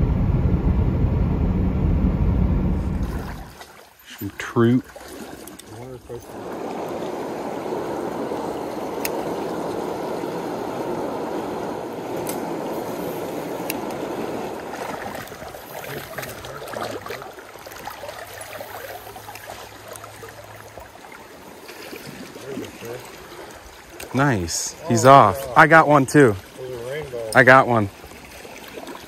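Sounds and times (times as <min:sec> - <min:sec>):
water flowing over riffle: 0:02.8 - 0:29.0
water rushing from culvert: 0:02.8 - 0:29.0.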